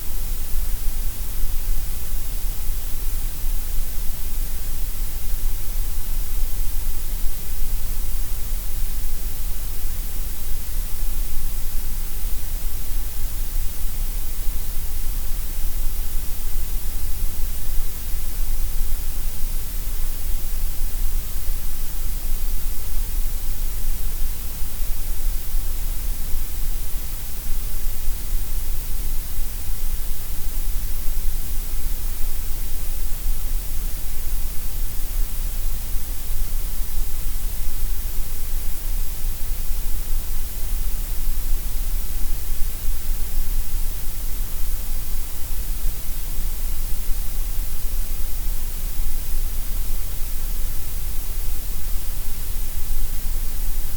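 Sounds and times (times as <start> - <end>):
steady gray noise hiss: 0.0 - 53.9.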